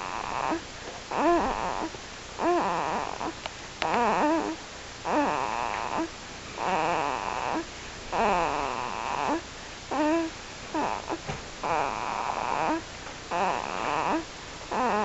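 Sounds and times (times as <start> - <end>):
infant snoring: 0.0 - 15.0.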